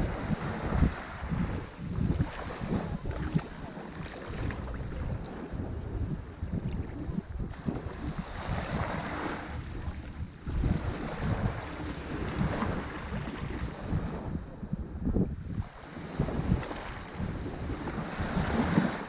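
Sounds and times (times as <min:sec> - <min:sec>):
ocean waves breaking: 0:00.0 - 0:14.5, 0:15.4 - 0:19.0
wind rumble on microphone: 0:00.0 - 0:19.0.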